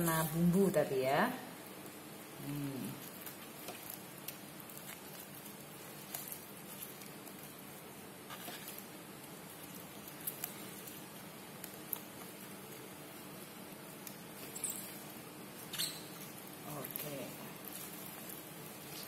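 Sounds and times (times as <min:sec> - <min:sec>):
gloved hands rustling cabbage leaves: 0:02.4 - 0:19.0.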